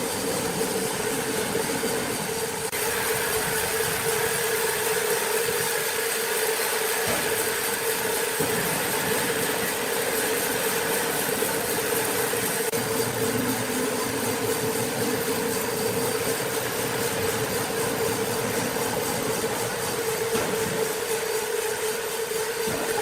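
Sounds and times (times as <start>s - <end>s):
sawmill machinery humming: 0.0s - 23.0s.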